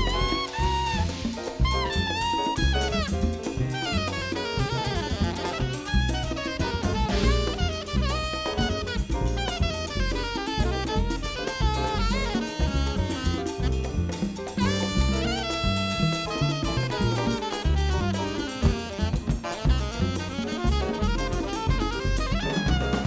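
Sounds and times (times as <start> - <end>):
drum kit: 0.0 - 23.0
hand percussion: 0.0 - 23.0
saxophone playing fast lines: 0.0 - 23.0.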